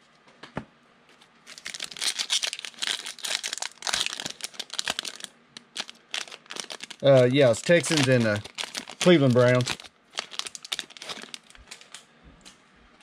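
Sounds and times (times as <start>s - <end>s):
foil wrapper crinkling and tearing: 1.4s - 12.0s.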